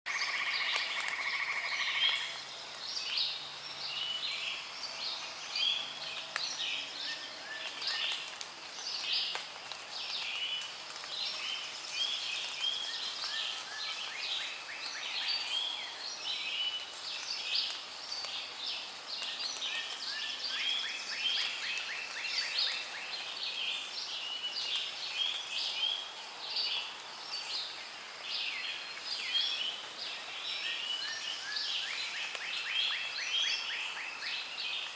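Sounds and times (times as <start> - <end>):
chorus of birds chirping: 0.1 - 34.9.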